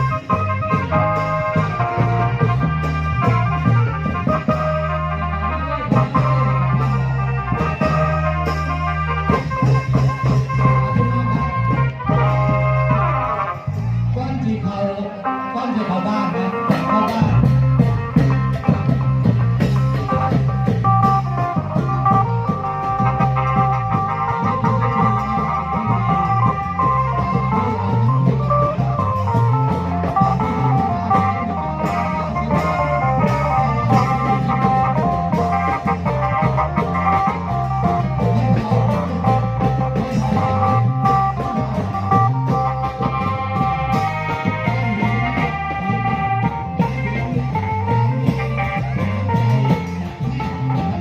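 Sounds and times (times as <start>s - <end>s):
drums keeping lively beat: 0.0s - 51.0s
held melodic notes: 0.0s - 51.0s.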